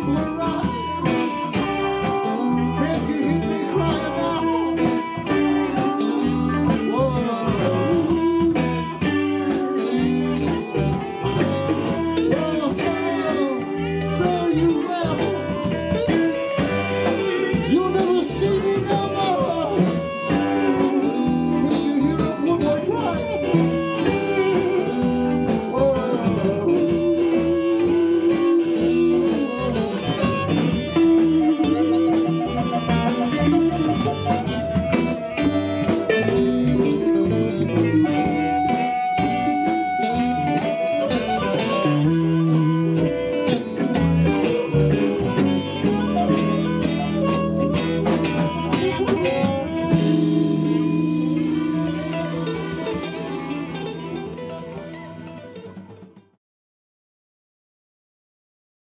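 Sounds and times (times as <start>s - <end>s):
bass guitar: 0.0s - 56.4s
drum kit: 0.0s - 56.4s
electric guitar lead: 0.0s - 56.4s.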